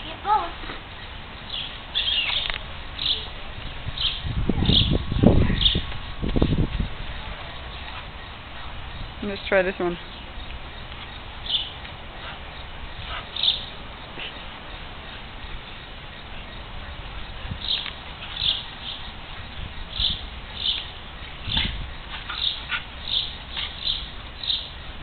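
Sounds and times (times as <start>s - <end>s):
bird chirping: 0.9s - 25.0s.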